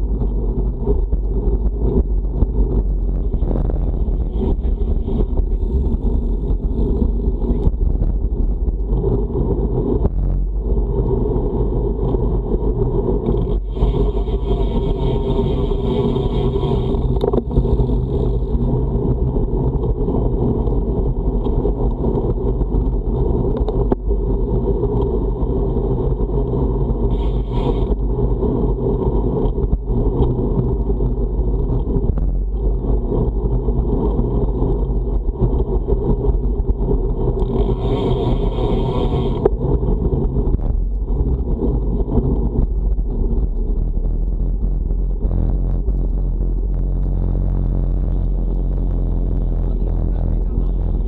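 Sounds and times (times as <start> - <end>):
road rumble from bike: 0.0 - 51.0
wind rush: 0.0 - 51.0.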